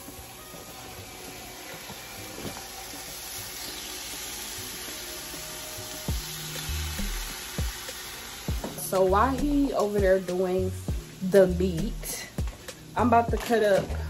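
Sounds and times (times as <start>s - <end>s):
meat sizzling in a skillet: 0.0s - 11.3s.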